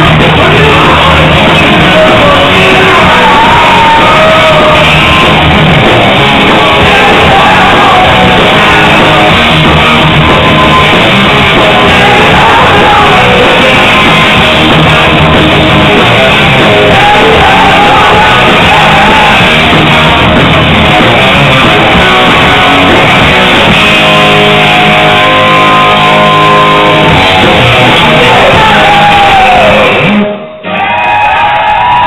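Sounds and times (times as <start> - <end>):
hard rock band playing: 0.0 - 32.0.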